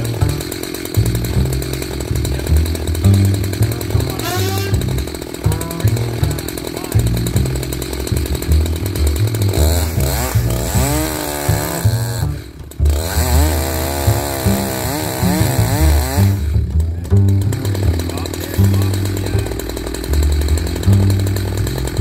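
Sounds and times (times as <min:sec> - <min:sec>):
background music with bassline: 0:00.0 - 0:22.0
chainsaw cutting wood: 0:00.0 - 0:22.0.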